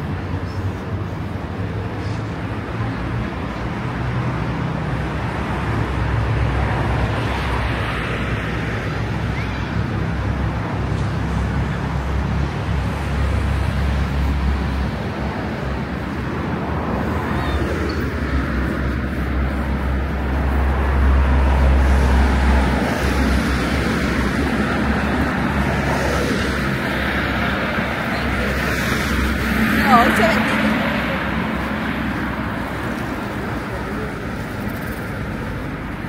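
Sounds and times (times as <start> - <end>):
passing cars rumbling: 0.0 - 36.0.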